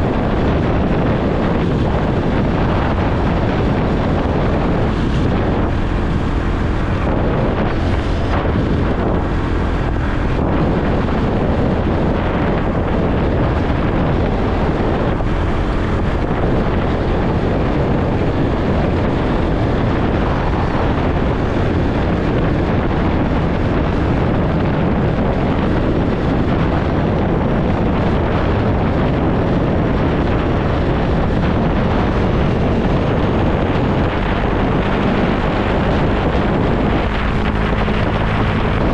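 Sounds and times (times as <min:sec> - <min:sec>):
motorcycle engine and road noise: 0:00.0 - 0:38.9
wind rushing over microphone: 0:00.0 - 0:38.9.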